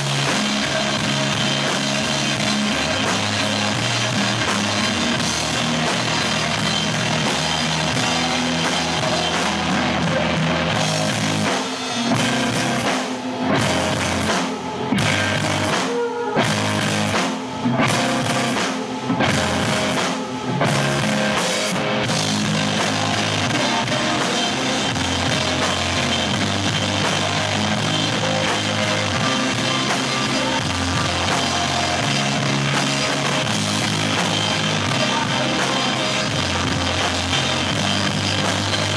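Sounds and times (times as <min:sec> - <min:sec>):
rock band playing loud: 0:00.0 - 0:38.9.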